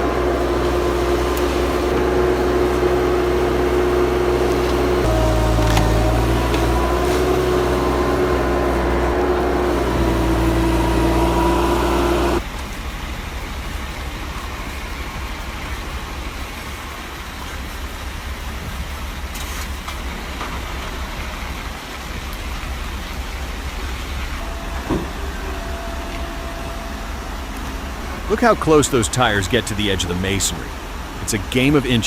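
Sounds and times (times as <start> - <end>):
heavy truck engine running: 0.0 - 31.2.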